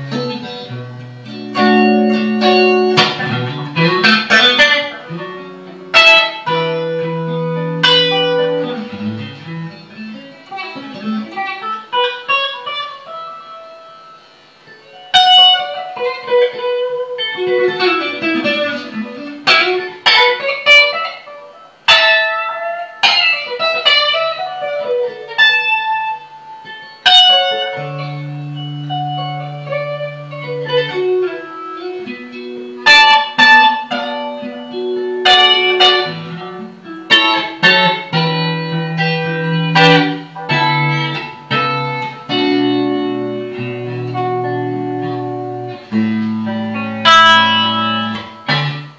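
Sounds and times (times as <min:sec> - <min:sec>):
clean electric guitar: 0:00.0 - 0:48.9.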